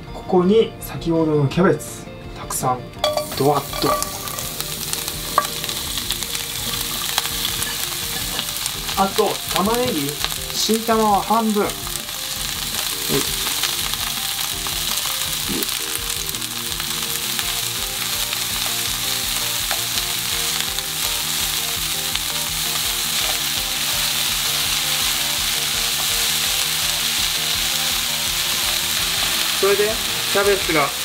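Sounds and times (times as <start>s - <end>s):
vegetables sizzling in frying pan: 3.0s - 31.0s.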